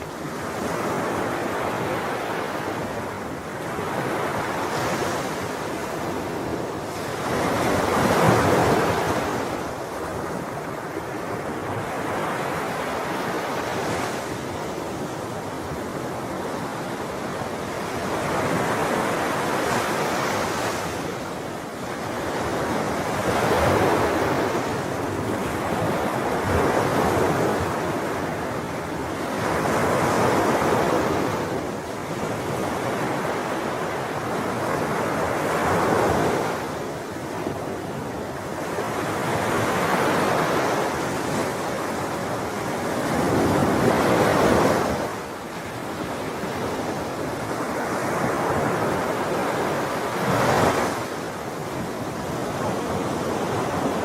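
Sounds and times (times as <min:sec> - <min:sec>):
sea waves washing ashore: 0:00.0 - 0:54.0.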